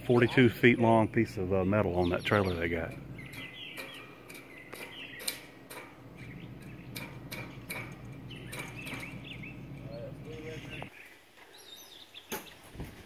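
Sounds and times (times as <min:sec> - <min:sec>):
bird chirps: 0:00.0 - 0:12.7.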